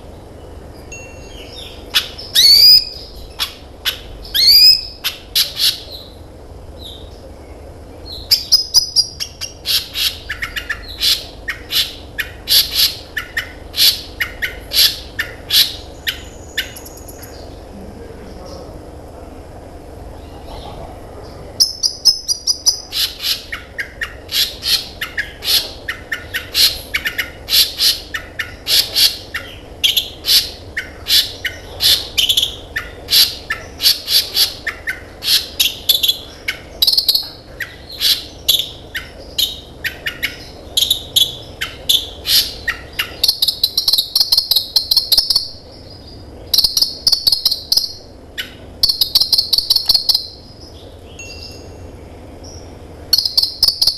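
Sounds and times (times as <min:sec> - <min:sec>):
bird buzzy trills: 0:00.0 - 0:17.7, 0:21.6 - 0:53.9
bird singing high chirps: 0:00.7 - 0:06.2, 0:06.8 - 0:17.6, 0:21.6 - 0:53.9.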